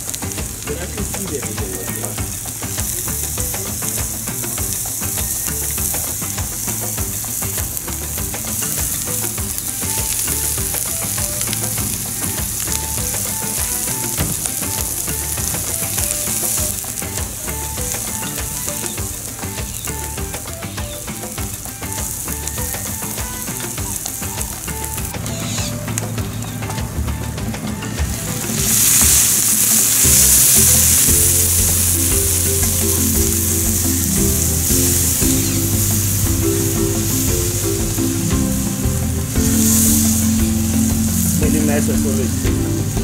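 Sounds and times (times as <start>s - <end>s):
vegetables sizzling in oil: 0.0s - 27.0s, 27.8s - 43.0s
background music with bass: 0.0s - 43.0s.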